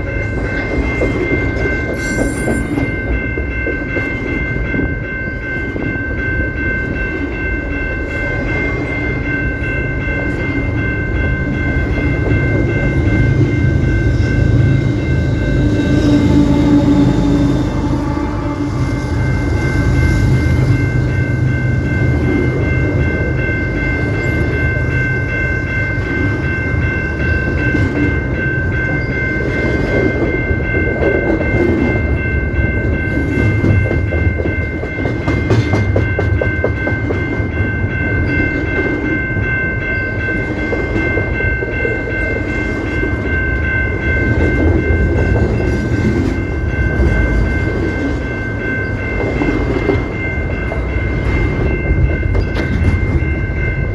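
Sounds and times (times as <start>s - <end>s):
train rumbling past: 0.0s - 53.9s.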